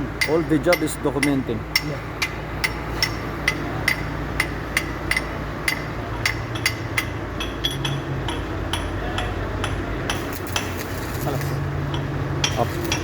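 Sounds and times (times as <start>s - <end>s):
hammer tapping on metal: 0.0s - 10.8s.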